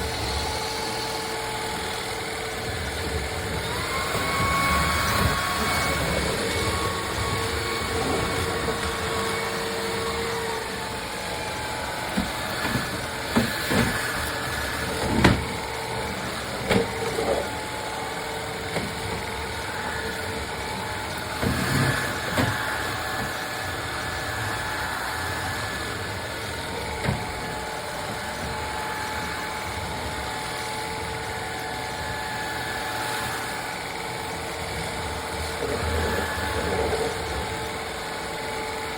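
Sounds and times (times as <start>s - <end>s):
vacuum motor whine: 0.0s - 38.9s.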